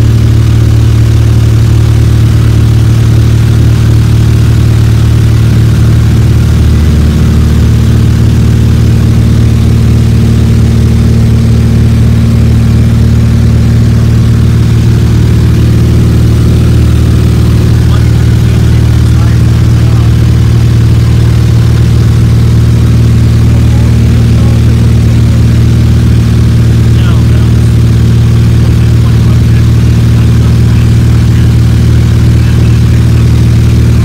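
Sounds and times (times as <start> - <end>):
propeller plane engine droning: 0.0 - 34.0.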